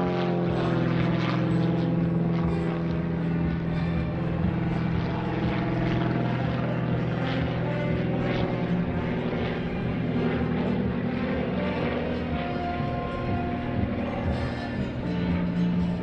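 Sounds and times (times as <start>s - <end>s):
propeller plane droning past: 0.0s - 16.0s.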